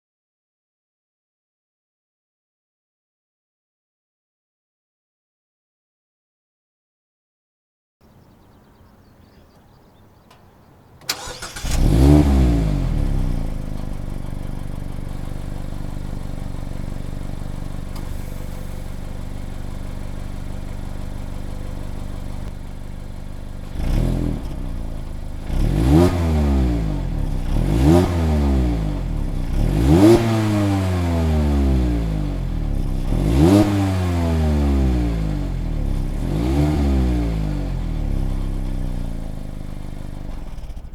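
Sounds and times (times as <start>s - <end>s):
car engine revving and idling: 8.1s - 40.9s.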